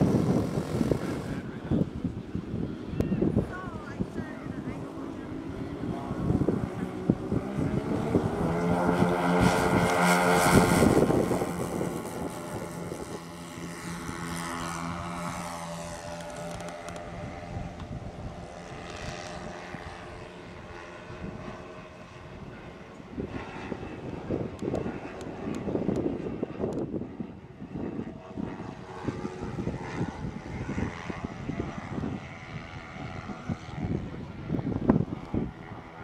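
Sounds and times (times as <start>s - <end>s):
model plane engines droning: 0.0s - 36.0s.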